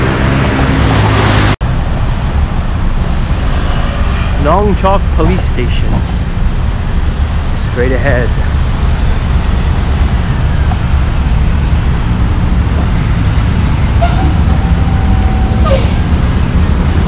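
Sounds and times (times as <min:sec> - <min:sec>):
engine and traffic rumble: 0:00.0 - 0:17.0.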